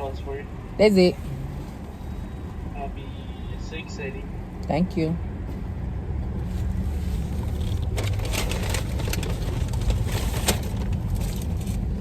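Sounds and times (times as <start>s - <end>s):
car engine rumble from inside: 0.0s - 12.0s.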